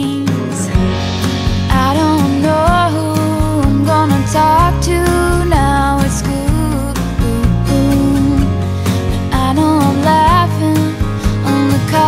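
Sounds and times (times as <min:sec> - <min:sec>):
song with singing voice and beat: 0:00.0 - 0:12.0.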